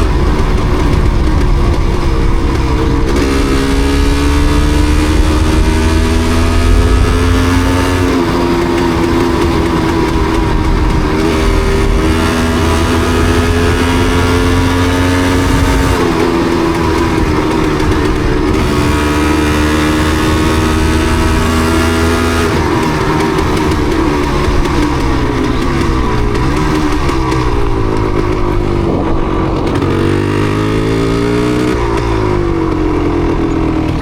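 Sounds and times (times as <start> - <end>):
two-stroke motorcycle engine: 0.0 - 34.0.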